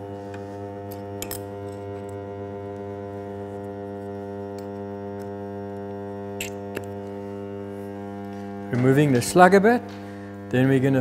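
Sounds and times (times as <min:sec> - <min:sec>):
electromagnet humming: 0:00.0 - 0:11.0.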